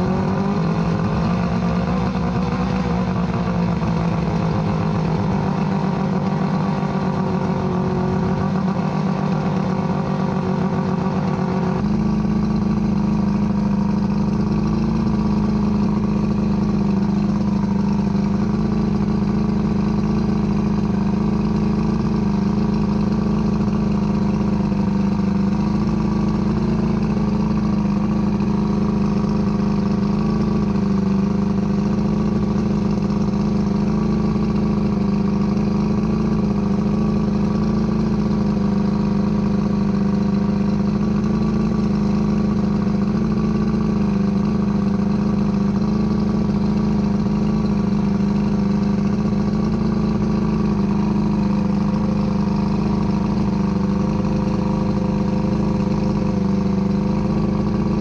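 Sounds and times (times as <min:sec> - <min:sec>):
outboard engine running: 0:00.0 - 0:58.0.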